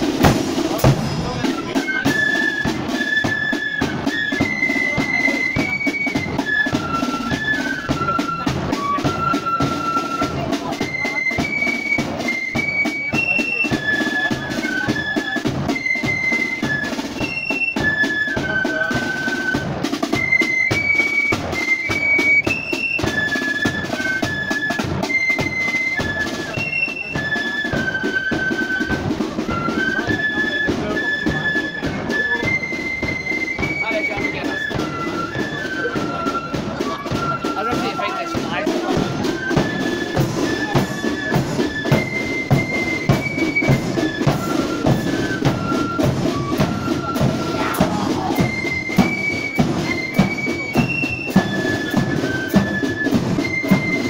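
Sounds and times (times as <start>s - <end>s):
flutes playing melody: 0.0s - 54.0s
rattling side drums: 0.0s - 54.0s.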